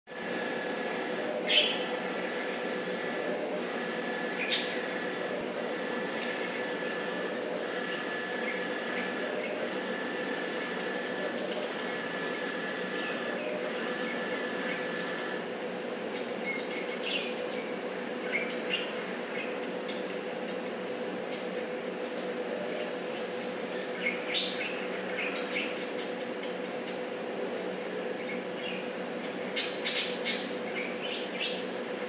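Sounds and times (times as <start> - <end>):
air conditioner humming: 0.1 - 32.0.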